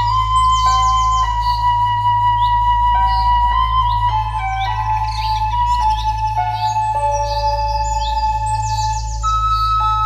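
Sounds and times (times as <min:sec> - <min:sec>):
high rising bird chirps: 0:00.0 - 0:10.0
soft new-age music with flute: 0:00.0 - 0:10.0.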